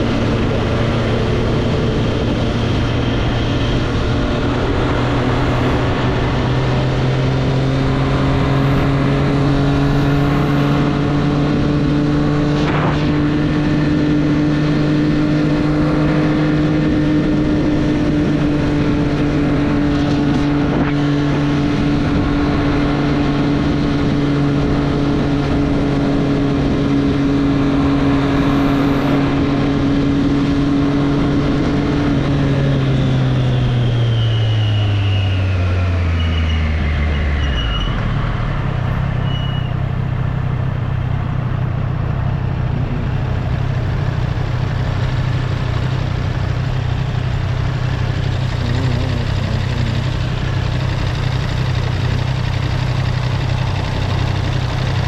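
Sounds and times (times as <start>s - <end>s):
motorcycle engine running: 0.0s - 34.2s, 39.8s - 55.0s.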